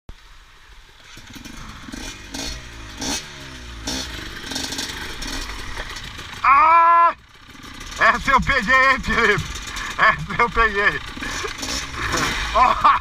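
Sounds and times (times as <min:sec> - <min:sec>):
dirt bike engine revving: 0:01.0 - 0:13.0.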